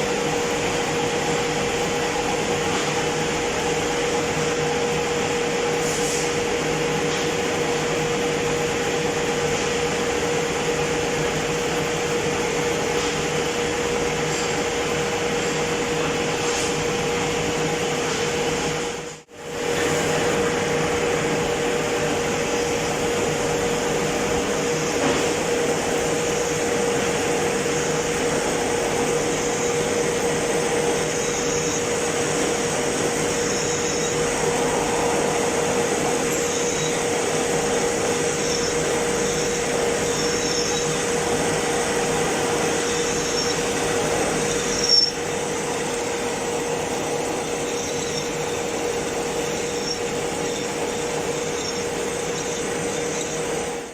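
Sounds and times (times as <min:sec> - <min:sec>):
metal lathe running: 0:06.4 - 0:53.9.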